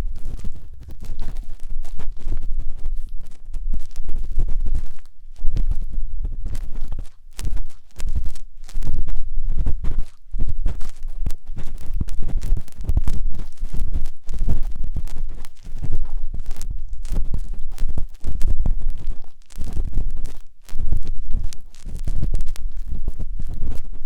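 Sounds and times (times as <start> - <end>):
tool scraping inside microphone ear: 0.0 - 24.0.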